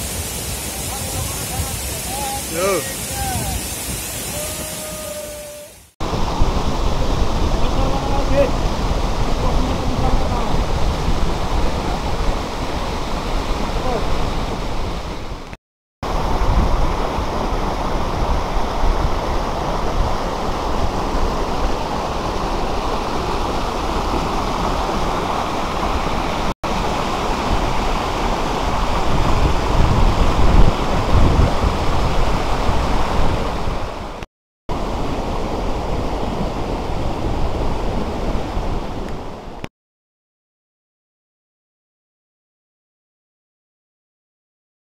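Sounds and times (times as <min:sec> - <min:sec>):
waterfall rushing: 0:00.0 - 0:39.5
stream tumbling over rocks: 0:00.0 - 0:39.6.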